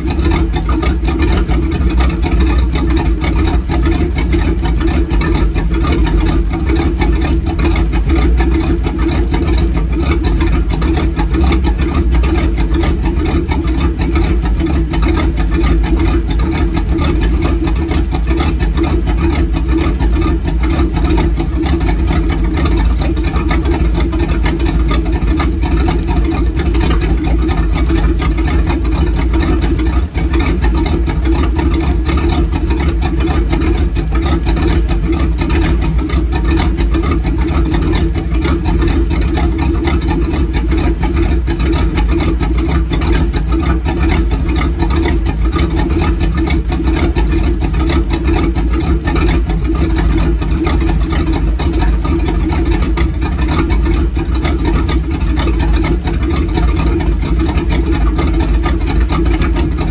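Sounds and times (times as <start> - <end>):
boat engine idling: 0.0 - 59.9
water splashing: 0.0 - 59.9.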